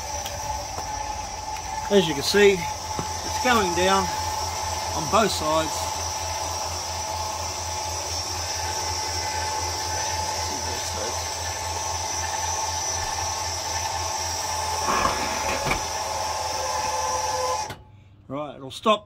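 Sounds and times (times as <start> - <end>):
leveling jack motor whine: 0.0 - 17.9.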